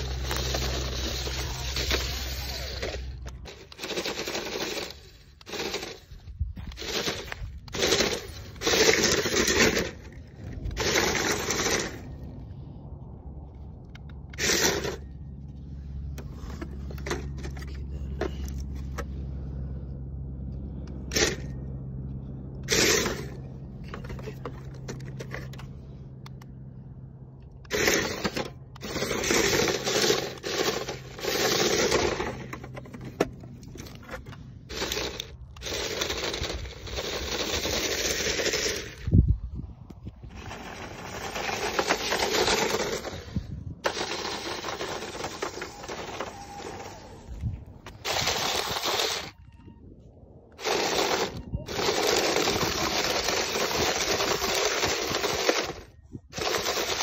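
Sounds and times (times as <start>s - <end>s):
toy electric motors whirring: 0.0s - 12.3s, 13.9s - 19.6s, 20.6s - 21.6s, 22.6s - 26.5s, 27.6s - 39.4s, 40.1s - 49.7s, 50.5s - 57.0s
wheels scraping over dirt: 0.0s - 26.5s, 27.5s - 57.0s.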